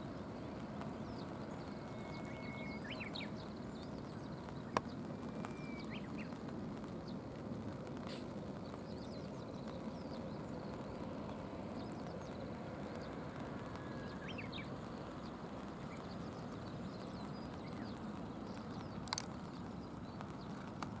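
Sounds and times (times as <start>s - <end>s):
faint bird chirps: 0.0s - 6.4s, 8.0s - 20.7s
light rain on a river: 0.0s - 21.0s.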